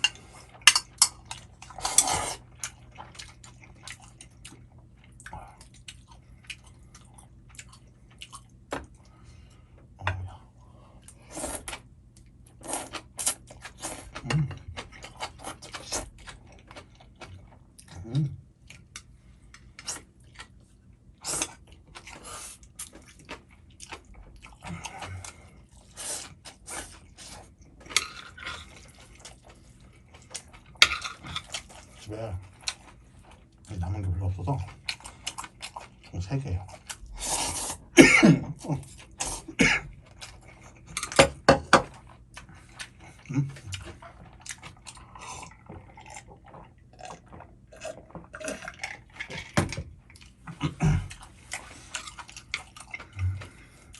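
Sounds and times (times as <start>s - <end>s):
chewing noodles: 0.0s - 9.2s, 10.2s - 37.9s, 41.9s - 53.9s.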